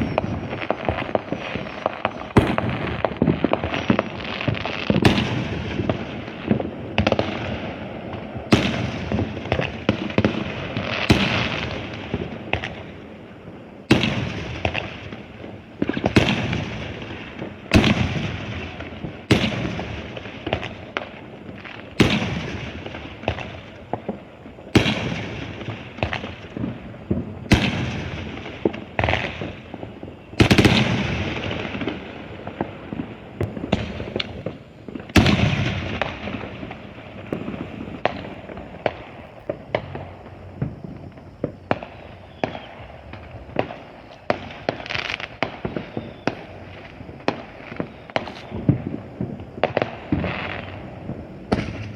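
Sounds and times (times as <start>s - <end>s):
fireworks bangs with echo: 0.0s - 51.9s
fireworks crackling: 0.0s - 51.9s.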